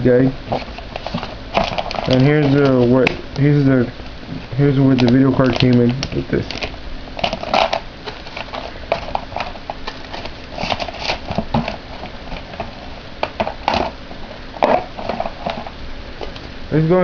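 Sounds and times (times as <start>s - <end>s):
cardboard packaging rustling: 0.4s - 3.8s, 4.6s - 16.5s.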